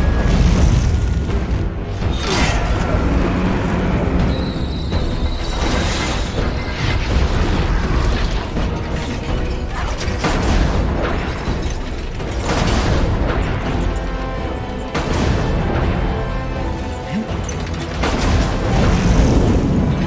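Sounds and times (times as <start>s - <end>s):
iron gears grinding and clanking: 1.9s - 20.0s.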